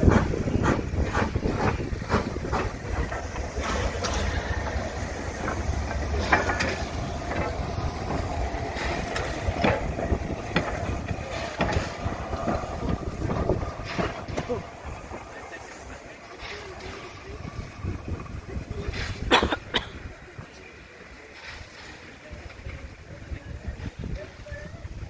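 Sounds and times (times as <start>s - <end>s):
train clanks: 0.0s - 24.5s
train rumbling: 0.0s - 25.0s.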